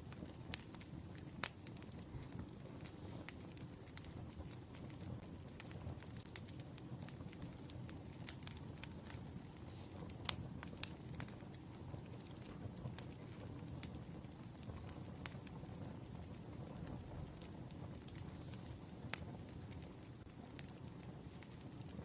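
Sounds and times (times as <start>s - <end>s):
firewood popping and crackling: 0.0s - 22.0s.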